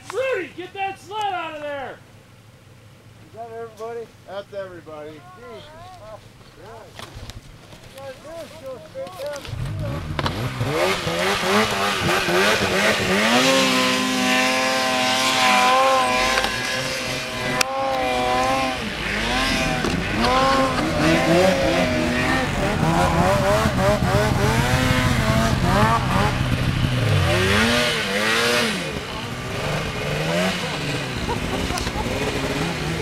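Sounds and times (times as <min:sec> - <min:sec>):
snowmobile engines revving: 0:00.0 - 0:02.0, 0:07.9 - 0:33.0.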